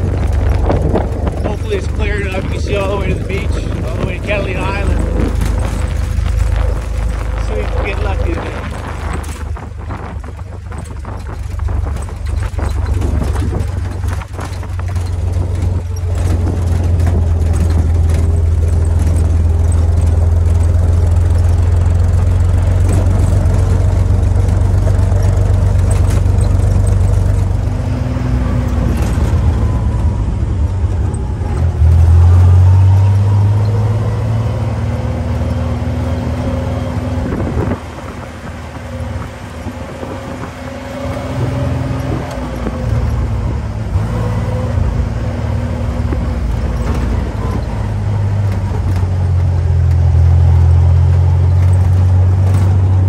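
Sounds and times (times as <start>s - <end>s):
jeep engine running: 0.0s - 53.0s.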